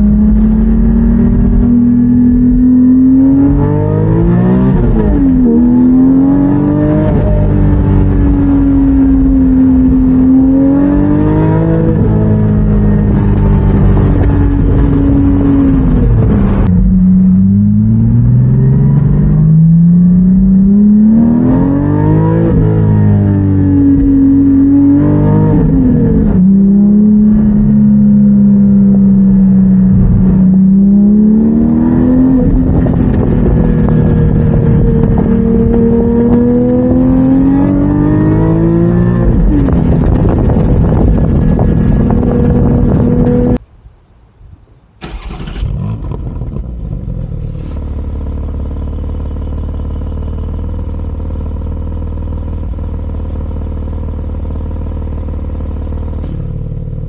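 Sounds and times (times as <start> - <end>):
sports car engine and exhaust: 0.0 - 43.7, 44.4 - 57.0.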